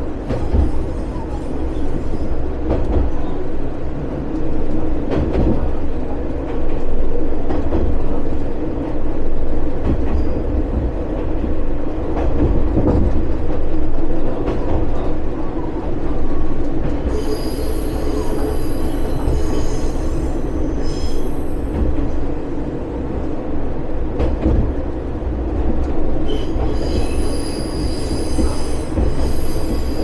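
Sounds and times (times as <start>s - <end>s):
railcar wheels and engine rumble: 0.0s - 30.0s
train knocks: 0.0s - 30.0s.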